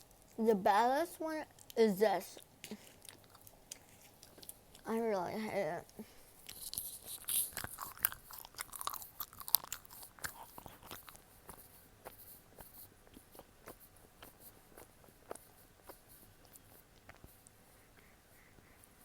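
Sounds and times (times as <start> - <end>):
chewing gummy candy: 0.0 - 0.4, 1.4 - 4.9, 5.8 - 18.8.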